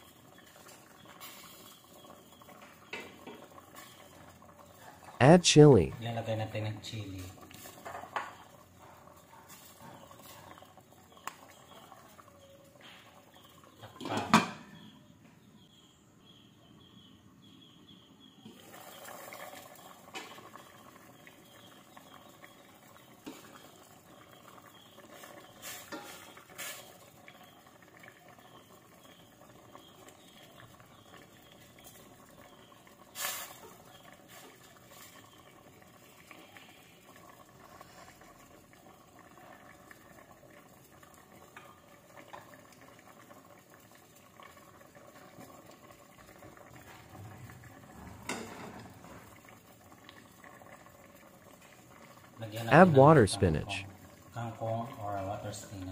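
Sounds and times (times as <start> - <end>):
soup boiling and bubbling: 0.0 - 55.9.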